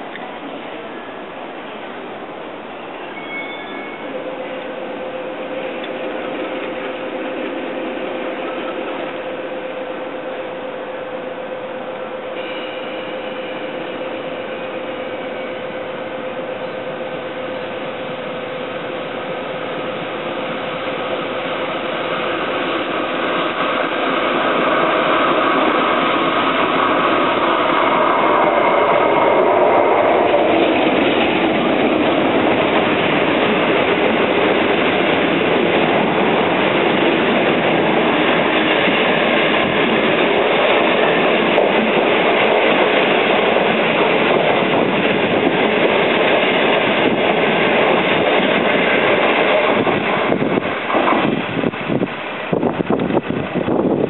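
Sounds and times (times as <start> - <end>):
diesel locomotive passing: 0.0 - 54.0.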